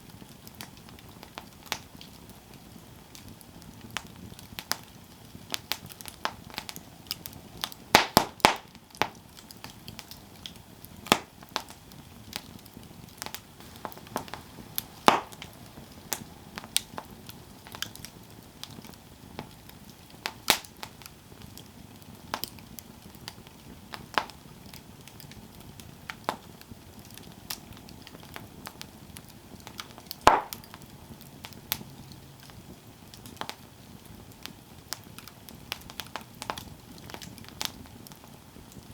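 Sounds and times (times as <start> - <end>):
campfire crackling and popping: 0.0 - 38.9
soft steady hiss: 0.0 - 38.9.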